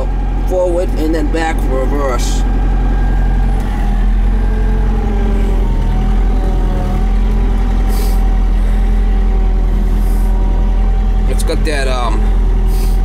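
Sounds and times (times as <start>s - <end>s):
diesel engine running under load: 0.0s - 13.0s
high wavering whine: 0.0s - 13.0s.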